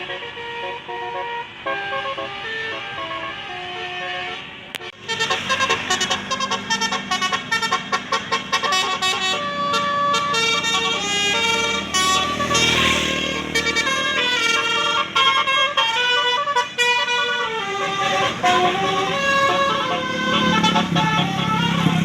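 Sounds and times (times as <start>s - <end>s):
musical air horn melody: 0.0s - 22.0s.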